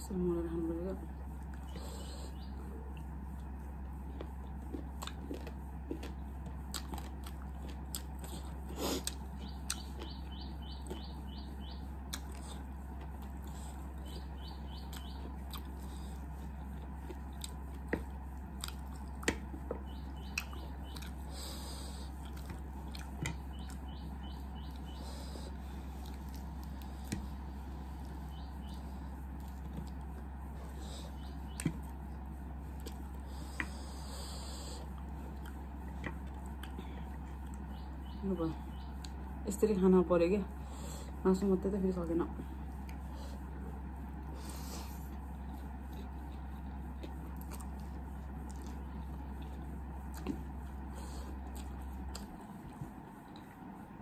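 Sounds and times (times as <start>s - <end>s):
steady low hum: 0.0s - 54.0s
chewing and mouth smacks: 2.9s - 32.1s, 32.7s - 38.2s, 42.6s - 53.7s.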